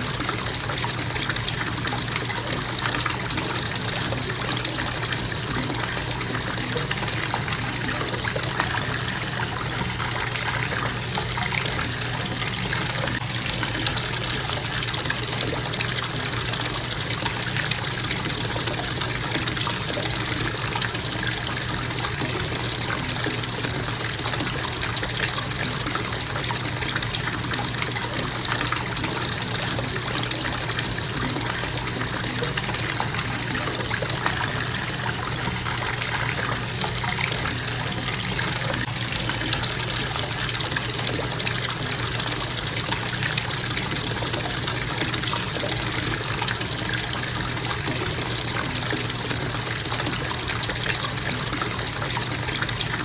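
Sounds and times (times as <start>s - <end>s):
faucet water splashing into tub: 0.0s - 53.0s.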